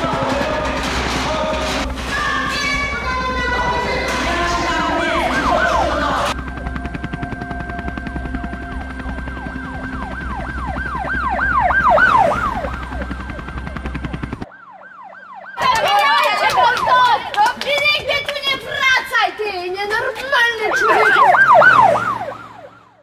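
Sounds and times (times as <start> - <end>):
emergency vehicle siren wailing: 0.0 - 17.7, 20.3 - 23.0.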